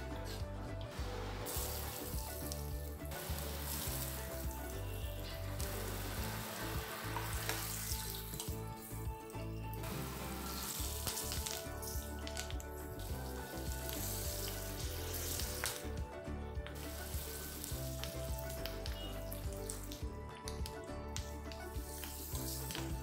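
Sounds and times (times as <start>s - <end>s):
seeds and garlic sizzling in oil: 1.0s - 16.0s, 16.7s - 20.0s, 21.5s - 23.0s.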